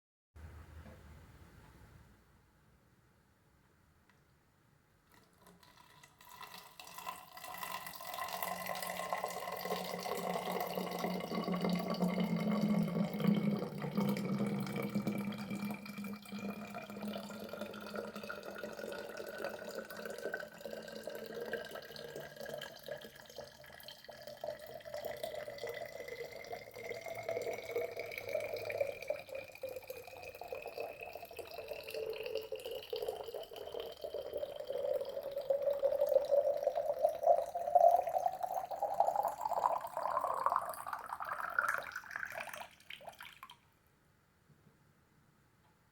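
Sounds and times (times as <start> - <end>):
water pouring into plastic bottle: 5.1 - 43.6.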